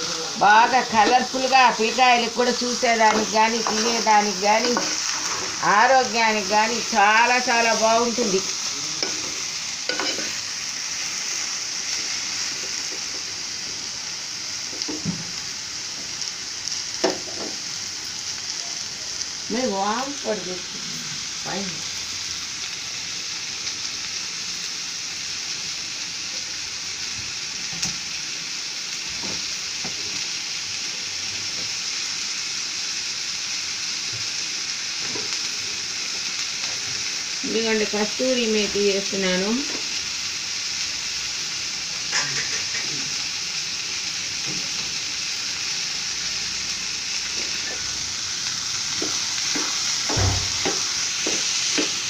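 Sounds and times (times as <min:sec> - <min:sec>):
vegetables sizzling in a pot: 0:00.0 - 0:52.0.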